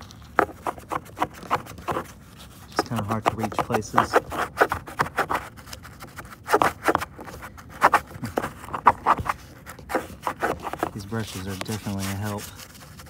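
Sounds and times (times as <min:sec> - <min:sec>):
brush scrubbing plastic: 0:00.0 - 0:13.0.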